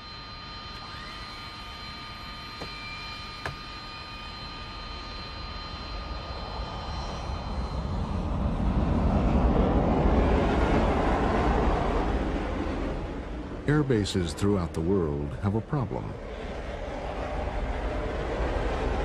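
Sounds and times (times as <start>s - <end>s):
jet aircraft flying past: 2.8s - 19.0s.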